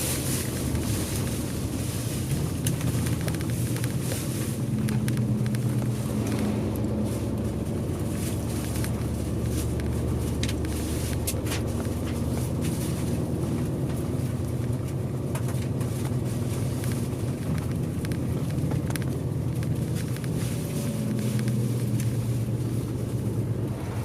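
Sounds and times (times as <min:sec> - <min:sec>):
bus engine drone: 0:00.0 - 0:24.0
small interior rattles: 0:00.0 - 0:24.0.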